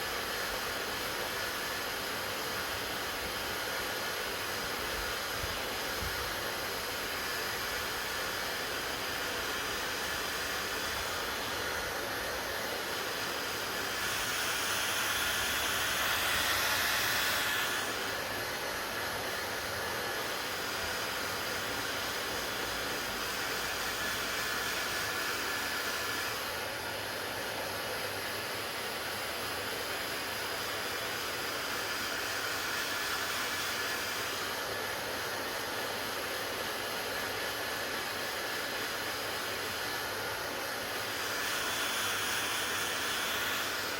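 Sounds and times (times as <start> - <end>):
hair dryer running: 0.0 - 43.9.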